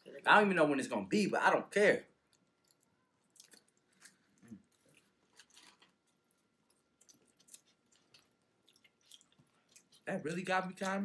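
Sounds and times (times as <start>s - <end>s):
people chewing and biting: 2.2s - 11.0s.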